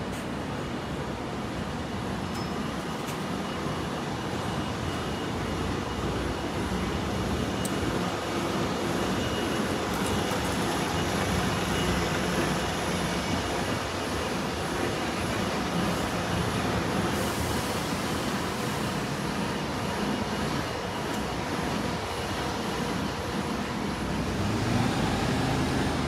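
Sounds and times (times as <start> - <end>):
city street traffic: 0.0 - 26.0
bus engine running: 3.7 - 26.0.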